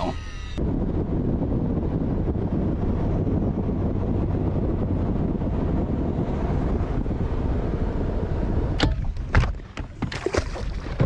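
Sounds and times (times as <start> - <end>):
wind rush on microphone: 0.0 - 11.0.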